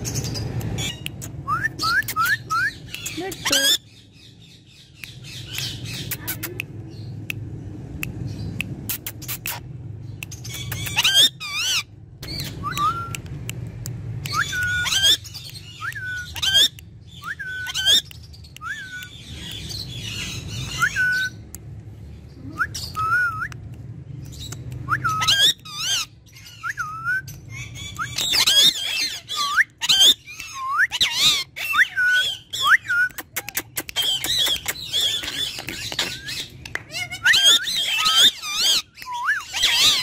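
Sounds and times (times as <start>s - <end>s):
parrot squawks and chatter: 0.0s - 40.0s.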